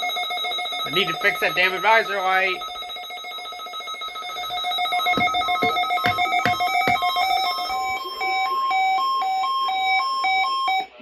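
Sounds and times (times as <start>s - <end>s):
weather radio alert alarm: 0.1s - 11.0s.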